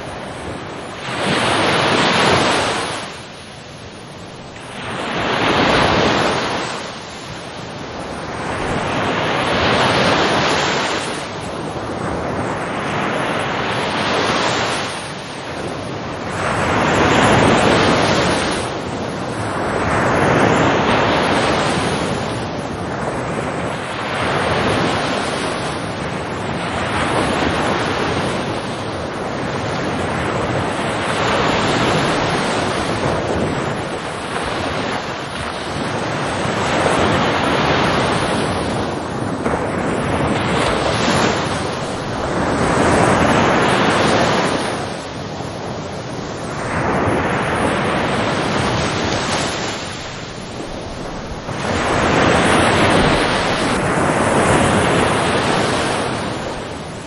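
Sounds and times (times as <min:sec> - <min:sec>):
ocean waves breaking: 0:00.0 - 0:57.0
wind on microphone: 0:00.0 - 0:57.0.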